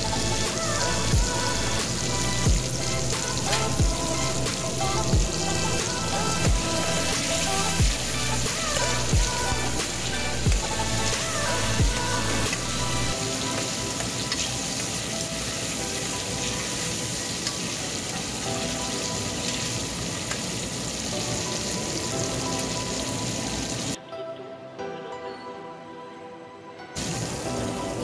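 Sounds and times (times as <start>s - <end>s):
onions and tomatoes sizzling: 0.0s - 24.0s, 27.0s - 28.0s.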